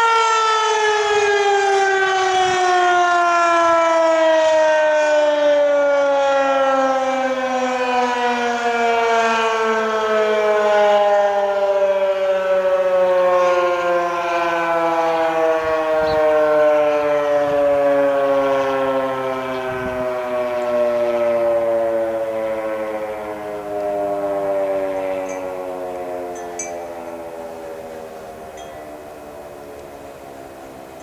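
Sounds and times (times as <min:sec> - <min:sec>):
siren winding down: 0:00.0 - 0:31.0.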